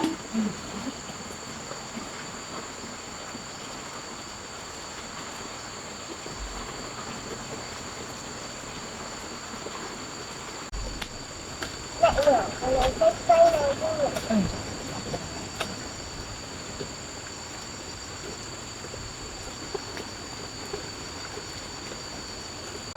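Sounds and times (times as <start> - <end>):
background hiss: 0.0 - 22.9
insects chirring: 0.0 - 22.9.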